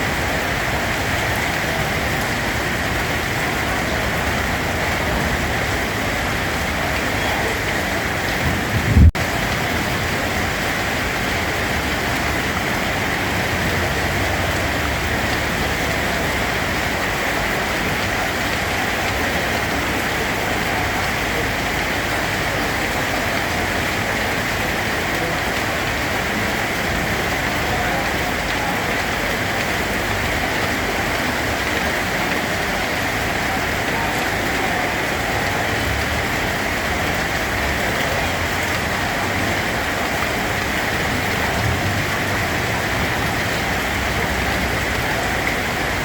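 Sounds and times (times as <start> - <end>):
steady rainfall: 0.0 - 46.0.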